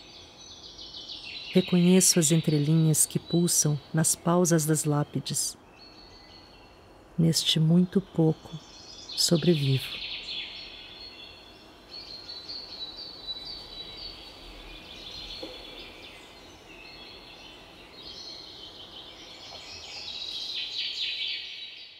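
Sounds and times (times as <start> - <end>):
birds chirping and calling: 0.0 - 21.8
faint steady hiss: 0.0 - 21.9.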